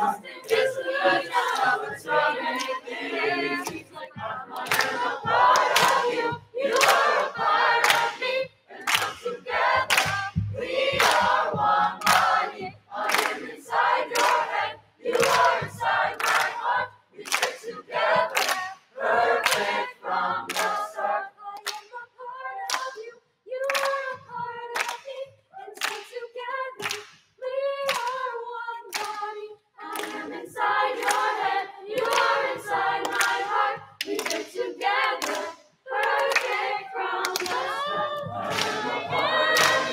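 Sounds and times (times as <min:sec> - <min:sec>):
choir singing: 0:00.0 - 0:39.9
hand claps keeping a beat: 0:00.0 - 0:39.9.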